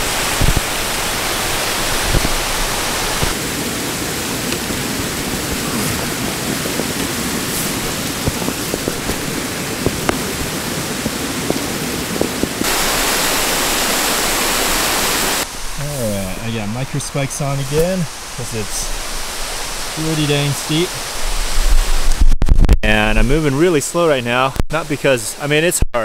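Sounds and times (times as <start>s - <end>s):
mountain stream rushing: 0.0s - 22.2s.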